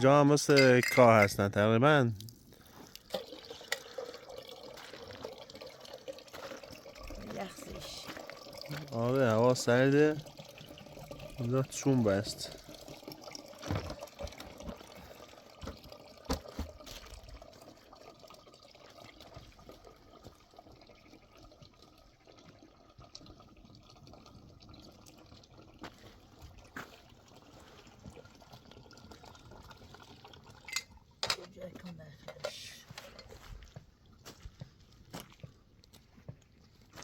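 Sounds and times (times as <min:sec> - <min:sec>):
water trickling: 0:00.0 - 0:37.0.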